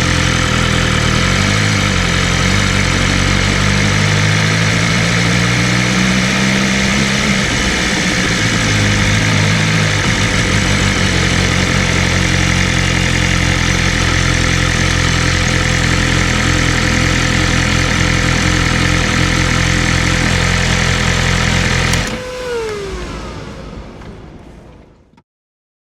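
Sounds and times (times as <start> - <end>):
motorcycle engine idling: 0.0 - 24.6
whine spinning down: 0.0 - 25.1.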